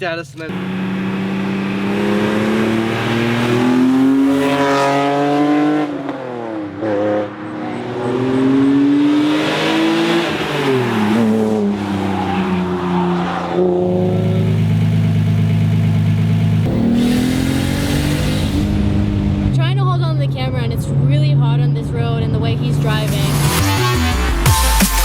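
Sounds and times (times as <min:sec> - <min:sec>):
car engine accelerating hard: 0:00.5 - 0:24.5.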